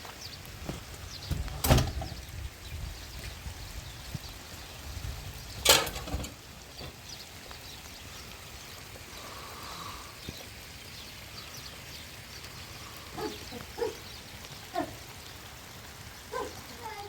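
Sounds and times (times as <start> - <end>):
running water: 0.0 - 17.0
steady rain: 0.0 - 17.0.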